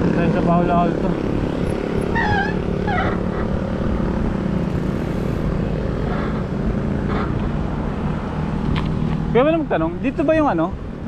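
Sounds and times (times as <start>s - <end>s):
motorcycle engine running: 0.0s - 10.1s
road and wind noise: 0.0s - 11.0s.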